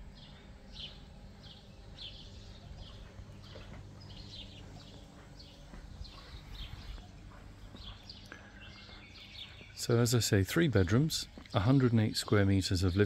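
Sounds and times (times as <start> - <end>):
faint low hum: 0.0 - 13.0
small bird chirping: 0.1 - 13.0.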